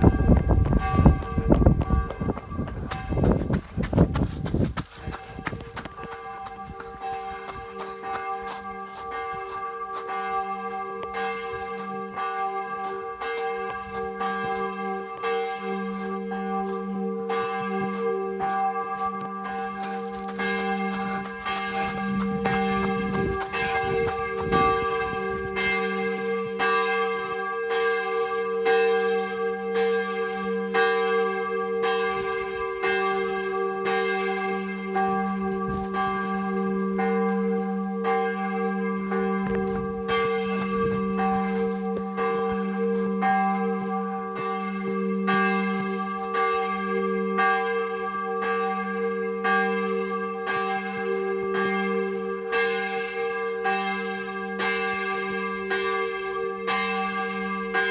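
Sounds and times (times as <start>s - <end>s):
church bell ringing: 0.0s - 57.9s.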